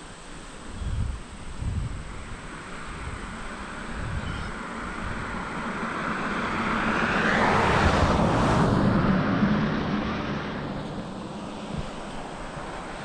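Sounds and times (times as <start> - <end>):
vehicle passing by: 2.3 - 13.0.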